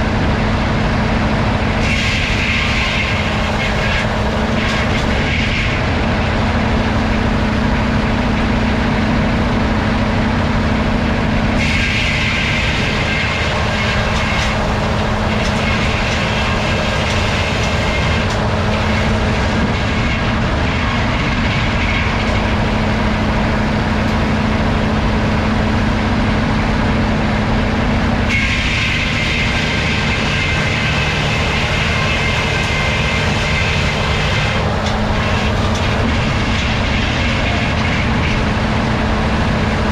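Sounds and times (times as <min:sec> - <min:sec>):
high-pitched saw whine: 0:00.0 - 0:39.7
sawmill machine hum: 0:00.0 - 0:39.9.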